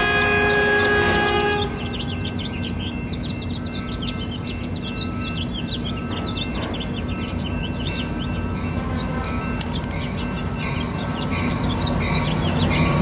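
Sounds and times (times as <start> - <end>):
diesel locomotive rumble: 0.0 - 13.0
small birds chirping: 0.1 - 13.0.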